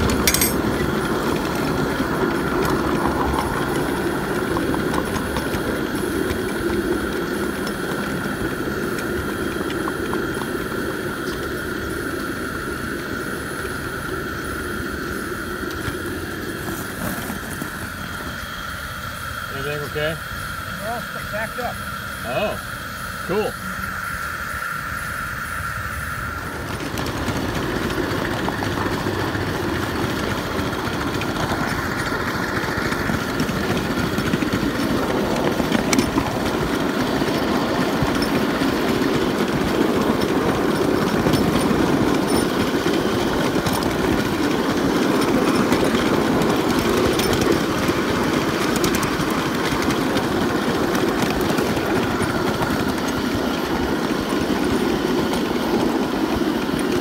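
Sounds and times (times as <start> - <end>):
steam engine noise: 0.0 - 57.0
wheels rattling on rail: 0.0 - 57.0.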